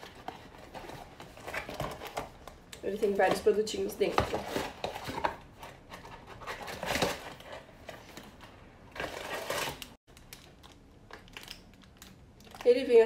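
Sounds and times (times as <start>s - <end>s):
packaging rustling and crinkling: 0.0s - 3.4s, 4.0s - 13.0s.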